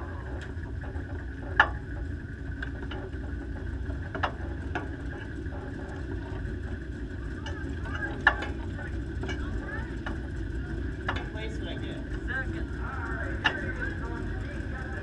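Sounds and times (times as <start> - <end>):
idling vehicle engines rumbling: 0.0 - 15.0.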